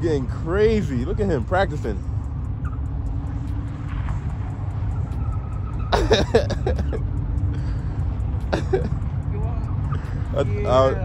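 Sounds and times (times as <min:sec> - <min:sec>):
constant low rumble: 0:00.0 - 0:11.0
distant car engine running: 0:00.0 - 0:11.0.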